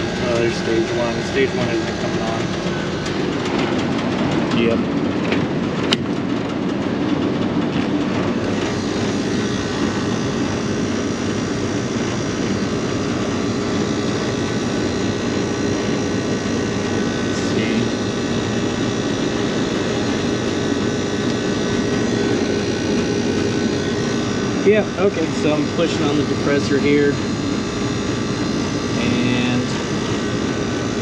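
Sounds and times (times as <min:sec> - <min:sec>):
air conditioner fan blowing: 0:00.0 - 0:31.0.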